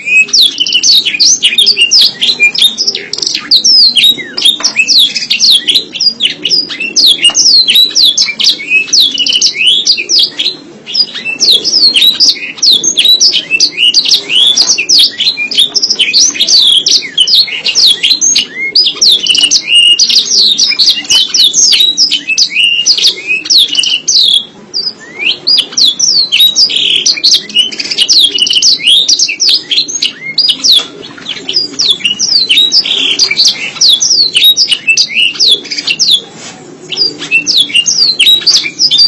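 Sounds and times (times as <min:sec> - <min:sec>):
canary singing trills: 0:00.0 - 0:39.0.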